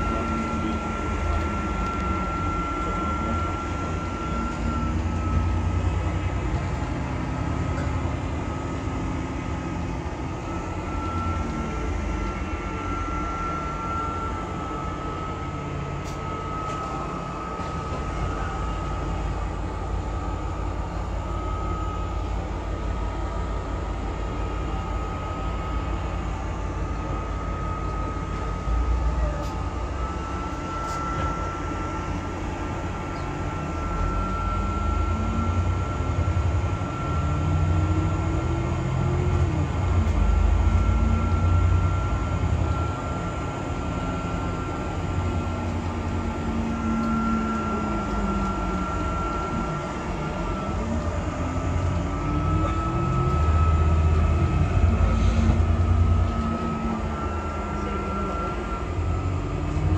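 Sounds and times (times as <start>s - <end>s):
bus engine and road rumble: 0.0s - 59.9s
thin whine: 0.0s - 59.9s.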